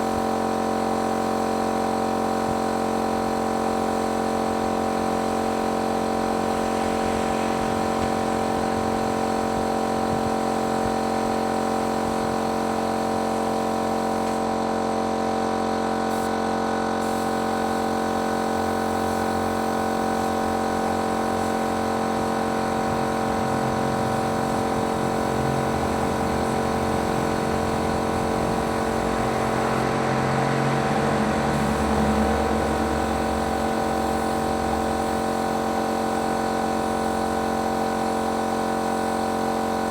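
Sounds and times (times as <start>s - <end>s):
paint sprayer motor hum: 0.0s - 39.9s.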